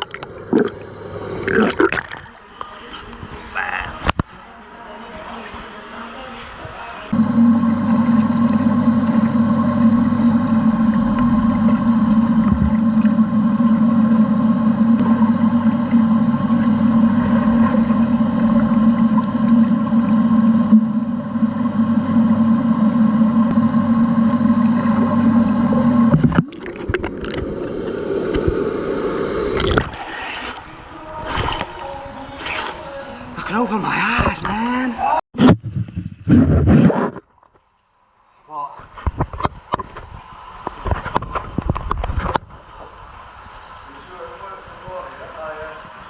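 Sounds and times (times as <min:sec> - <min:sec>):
underwater droning hum: 0:00.0 - 0:35.2, 0:39.1 - 0:46.0.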